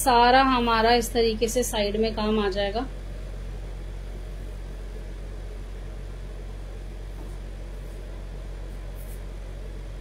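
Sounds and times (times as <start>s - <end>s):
low hum with hiss: 0.0s - 10.0s.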